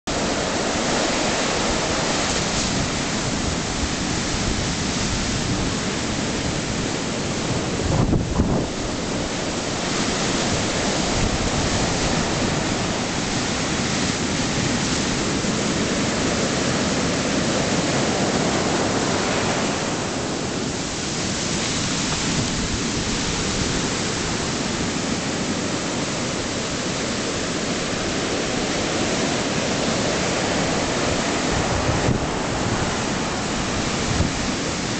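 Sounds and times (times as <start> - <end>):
surf washing up a beach: 0.0 - 34.9
wind buffeting microphone: 0.1 - 34.9.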